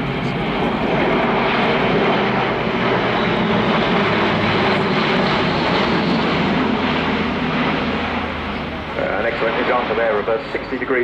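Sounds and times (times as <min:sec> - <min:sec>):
turboprop engines running: 0:00.0 - 0:11.0.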